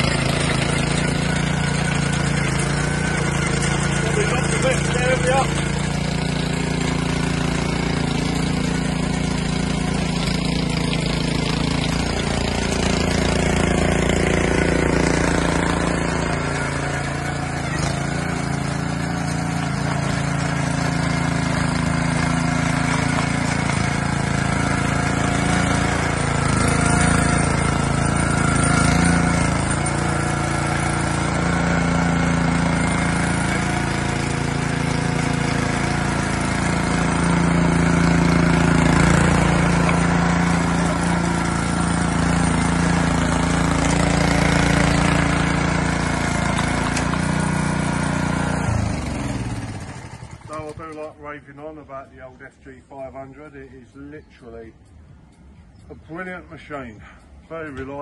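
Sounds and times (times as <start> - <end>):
rotavator engine running: 0.0 - 51.3
tines churning soil: 0.0 - 54.9.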